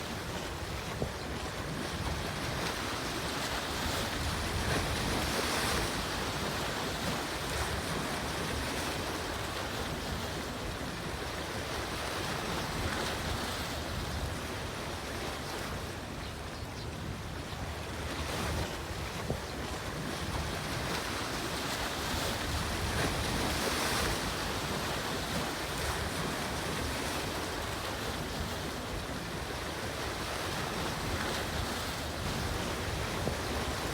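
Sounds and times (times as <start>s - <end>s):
sea waves washing in: 0.0s - 16.2s, 17.1s - 33.9s
wind: 0.0s - 33.9s.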